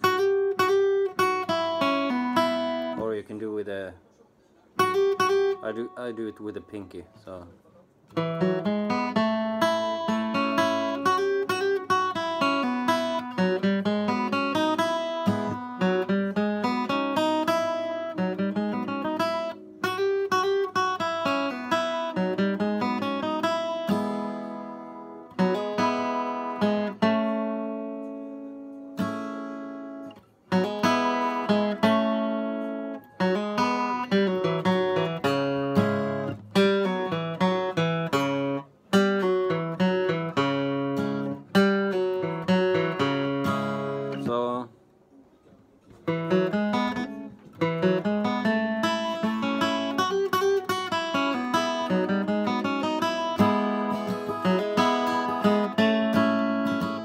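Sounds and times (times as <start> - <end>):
acoustic guitar flatpicking: 0.0 - 3.8, 4.6 - 6.9, 7.7 - 57.0.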